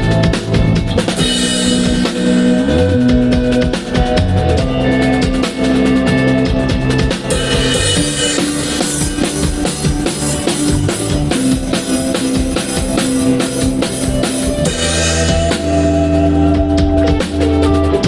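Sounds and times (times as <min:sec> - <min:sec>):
drum kit kick and snare hits: 0:00.0 - 0:16.0
live band playing: 0:00.0 - 0:18.0.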